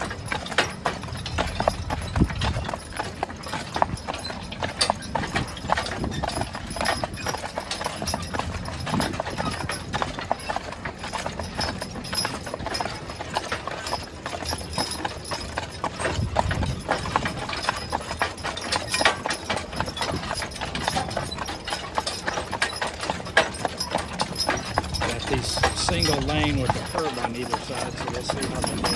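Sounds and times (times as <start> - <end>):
horse hooves clip-clopping: 0.0 - 28.9.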